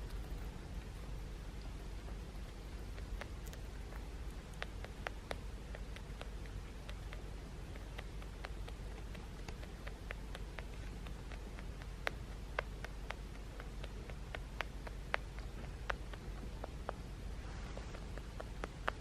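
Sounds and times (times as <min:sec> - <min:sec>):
rabbit crunching food: 0:00.0 - 0:19.0.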